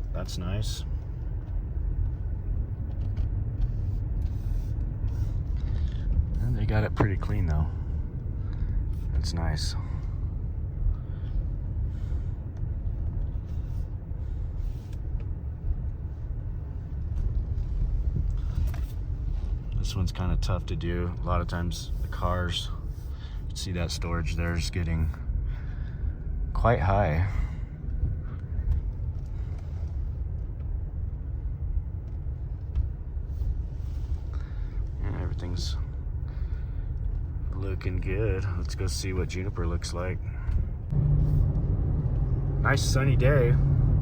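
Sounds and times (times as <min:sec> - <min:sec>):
vehicle rumble from inside cabin: 0:00.0 - 0:44.0.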